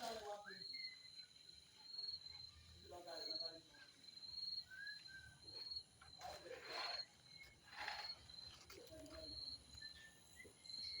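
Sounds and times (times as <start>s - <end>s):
crickets chirping: 0.4s - 6.2s, 6.8s - 11.0s.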